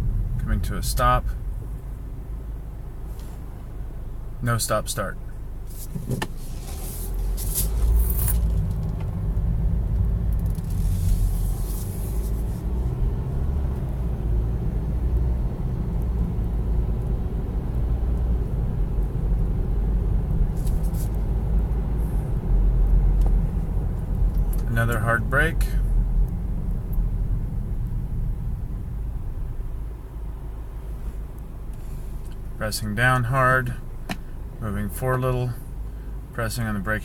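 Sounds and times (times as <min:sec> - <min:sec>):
car engine low rumble: 0:00.0 - 0:37.0.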